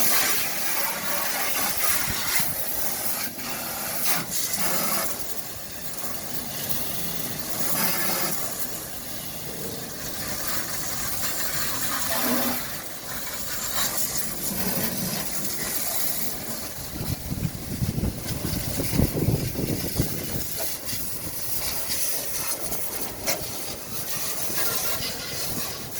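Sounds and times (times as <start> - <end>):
pressure washer spray hissing: 0.0 - 25.9.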